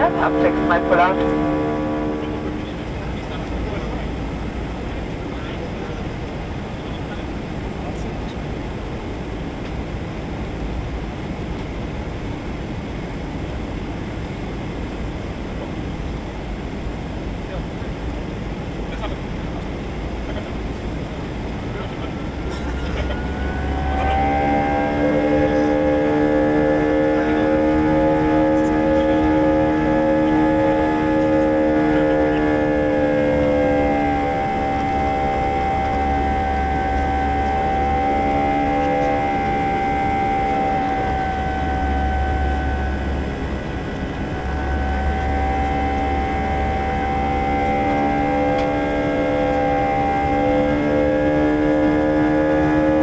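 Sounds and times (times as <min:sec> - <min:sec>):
held humming tones: 0:00.0 - 0:53.0
jet engine drone in cabin: 0:00.0 - 0:53.0.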